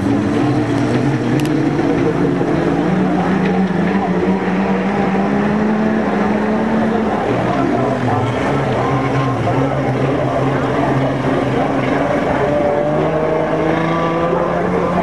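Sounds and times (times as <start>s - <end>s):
truck engines running hard: 0.0s - 15.0s.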